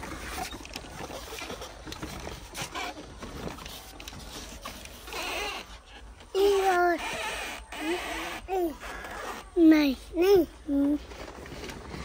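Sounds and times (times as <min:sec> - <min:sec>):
plastic toy car rattling: 0:00.0 - 0:09.8.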